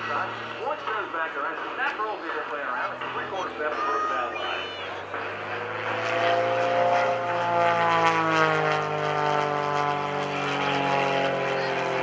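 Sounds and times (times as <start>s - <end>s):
propeller plane engine in flight: 0.0s - 12.0s.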